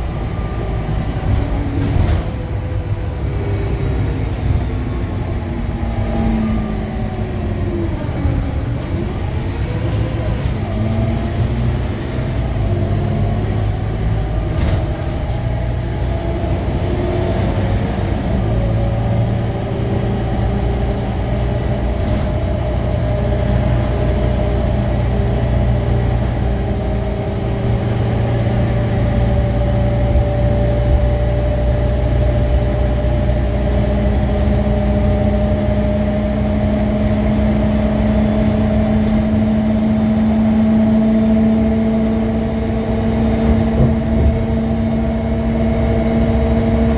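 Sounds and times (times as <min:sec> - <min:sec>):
bus engine hum with whine: 0:00.0 - 0:46.9.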